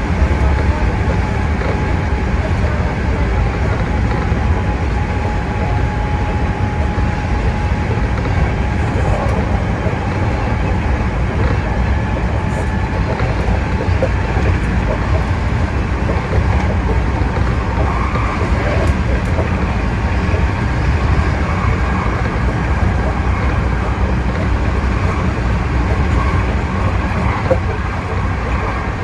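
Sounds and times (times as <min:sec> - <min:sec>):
electric train running rumble: 0:00.0 - 0:29.0.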